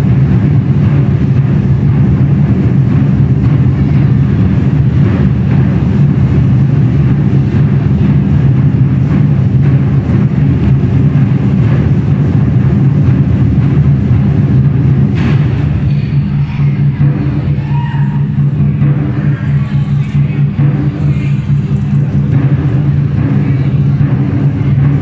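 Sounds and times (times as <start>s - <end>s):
barrel drums beating together: 0.0s - 25.0s.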